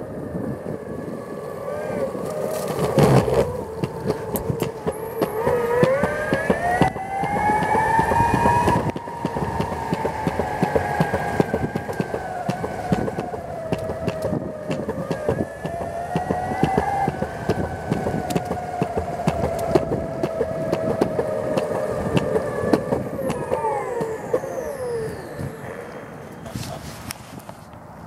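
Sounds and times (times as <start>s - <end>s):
electric motors whining: 0.0s - 26.8s
wheels rumbling on concrete: 0.0s - 28.0s
ticks from pavement joints: 2.5s - 26.0s.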